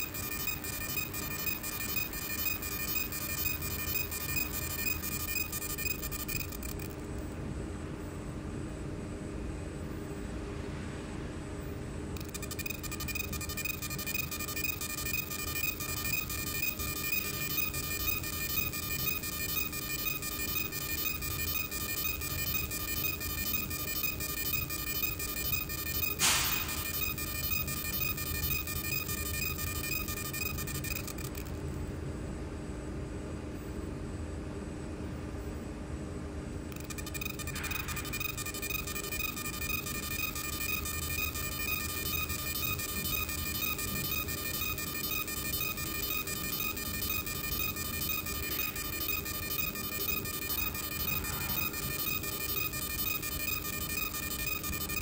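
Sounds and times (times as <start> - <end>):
laser engraving crackling buzz: 0.0 - 7.2, 12.2 - 31.6, 36.7 - 55.0
machine fan hum: 0.0 - 55.0.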